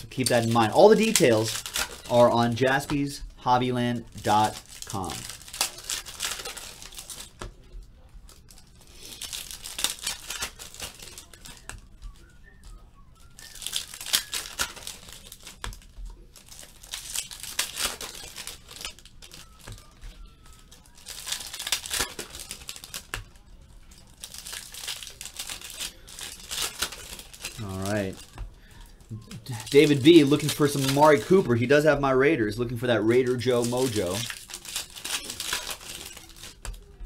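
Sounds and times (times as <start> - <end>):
card wrappers crinkling and tearing: 0.0 - 37.0.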